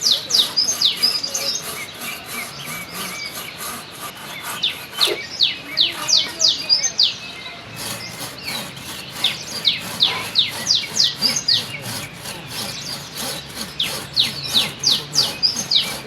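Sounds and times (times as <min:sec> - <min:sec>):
faint scraping and rubbing: 0:00.0 - 0:16.0.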